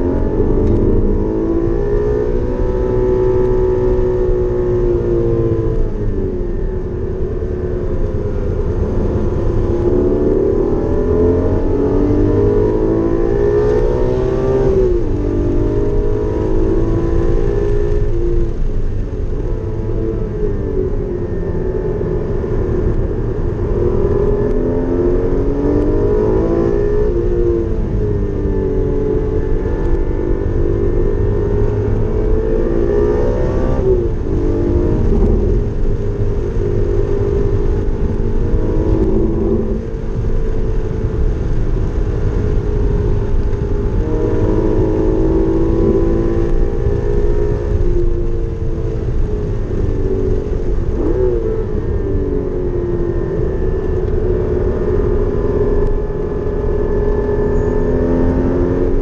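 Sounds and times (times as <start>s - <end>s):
low rumble: 0.0s - 57.8s
car engine revving: 0.0s - 59.0s.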